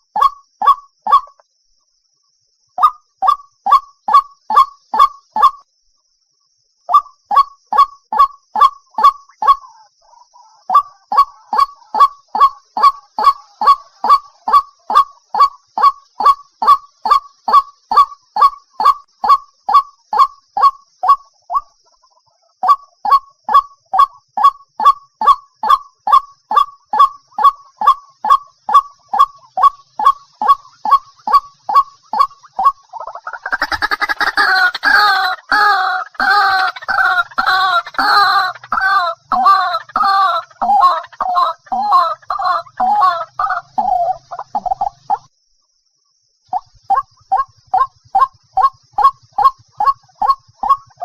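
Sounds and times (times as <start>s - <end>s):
waterhen calling: 6.9s - 24.2s, 24.8s - 45.3s, 46.5s - 51.0s.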